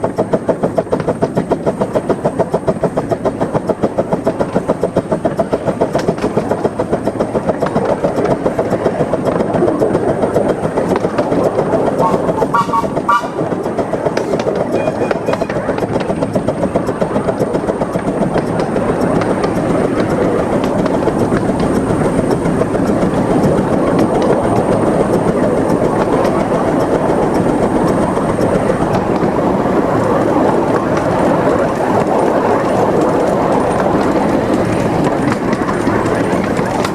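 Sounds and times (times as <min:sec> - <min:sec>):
steam locomotive exhaust beats: 0:00.0 - 0:36.9
wheels clattering on rails: 0:00.0 - 0:36.9.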